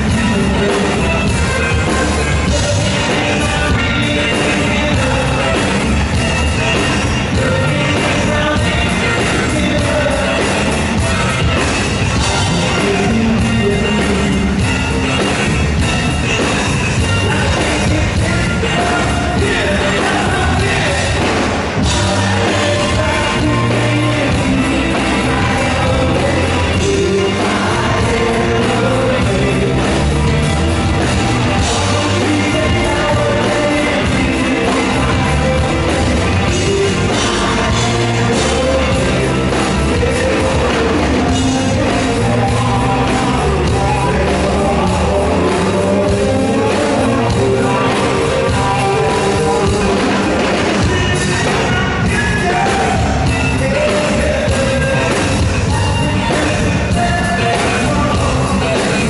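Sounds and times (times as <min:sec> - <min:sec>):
person singing lead vocal: 0:00.0 - 0:59.0
rock band playing live: 0:00.0 - 0:59.0.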